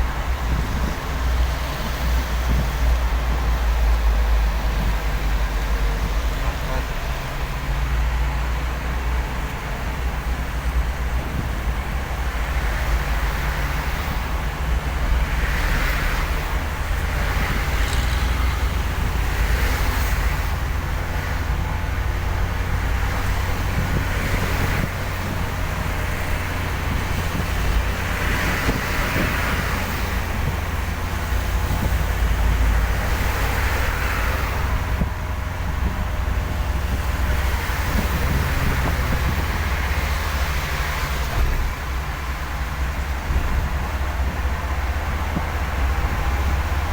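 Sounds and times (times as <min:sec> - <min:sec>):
vehicle engine and road rumble: 0:00.0 - 0:46.9.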